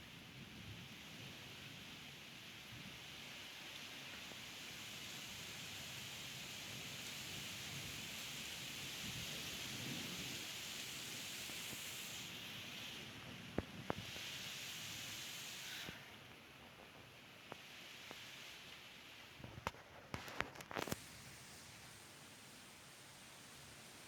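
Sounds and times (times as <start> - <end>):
rain hiss: 0.0 - 24.0.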